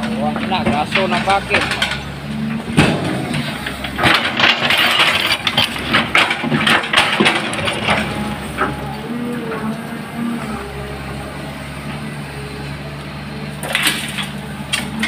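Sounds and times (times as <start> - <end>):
excavator bucket scraping soil: 0.0 - 12.1
diesel engine running: 0.0 - 15.0.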